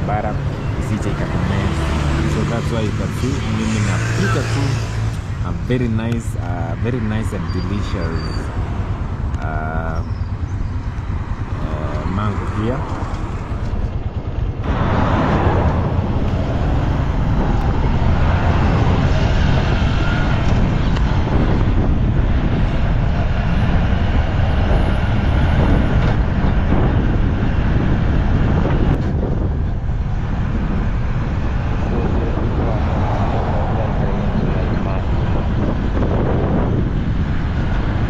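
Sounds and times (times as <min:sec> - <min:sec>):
motorcycle engine rumble: 0:00.0 - 0:38.0
rushing wind noise: 0:00.0 - 0:38.0.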